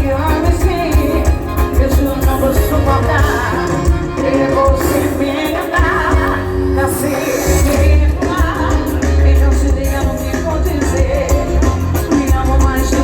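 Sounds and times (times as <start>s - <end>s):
live dance music: 0.0s - 13.0s
woman singing: 0.0s - 13.0s.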